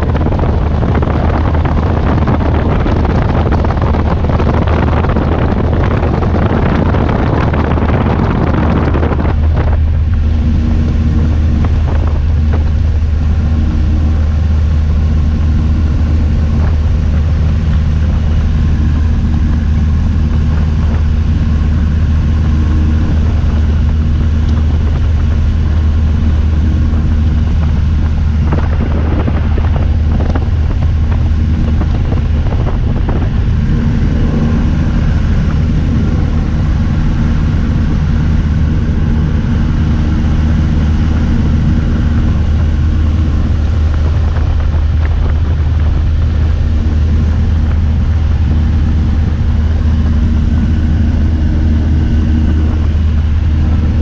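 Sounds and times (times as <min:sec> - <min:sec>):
airplane engine droning: 0:00.0 - 0:54.0
wind rushing: 0:00.0 - 0:54.0.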